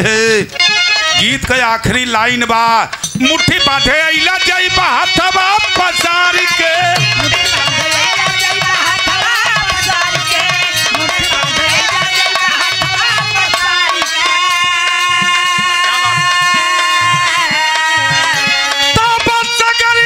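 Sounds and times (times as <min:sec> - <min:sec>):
harmonium holding long notes: 0:00.0 - 0:02.1, 0:02.9 - 0:20.0
dholak drum strokes: 0:00.1 - 0:20.0
man singing into microphone: 0:01.2 - 0:20.0.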